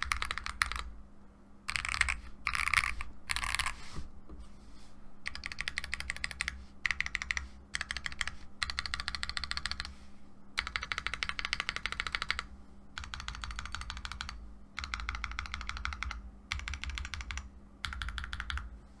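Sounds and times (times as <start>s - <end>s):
mechanical keyboard typing: 0.0s - 0.9s, 1.7s - 3.8s, 5.2s - 9.9s, 10.6s - 18.7s.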